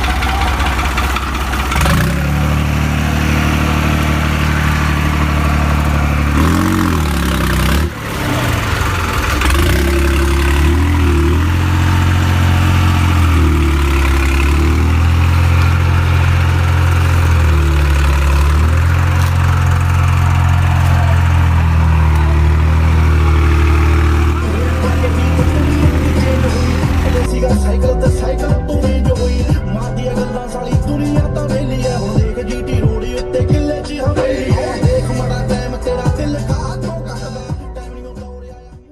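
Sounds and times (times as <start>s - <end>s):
diesel tractor engine running: 0.0s - 38.7s.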